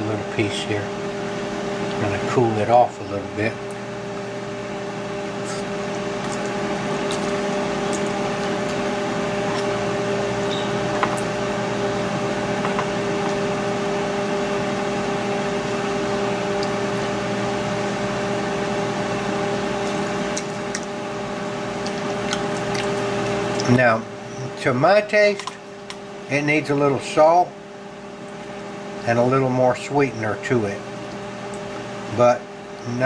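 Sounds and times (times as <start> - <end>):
cooking appliance humming: 0.0 - 33.0.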